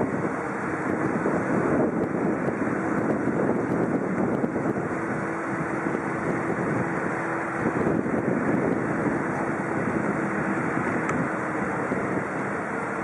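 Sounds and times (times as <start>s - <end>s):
jet engines rumbling: 0.0s - 13.0s
wind on microphone: 0.0s - 13.0s.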